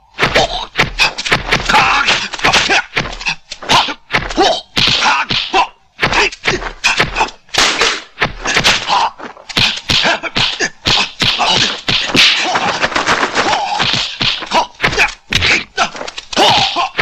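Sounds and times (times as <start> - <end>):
fighters shouting and grunting: 0.0 - 17.0
punch and block whacks: 0.1 - 17.0.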